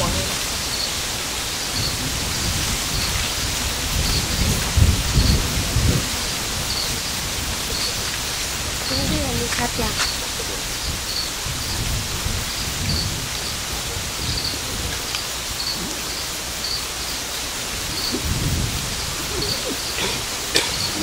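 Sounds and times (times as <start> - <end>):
low rumbling: 0.0 - 21.0
steady outdoor hiss: 0.0 - 21.0.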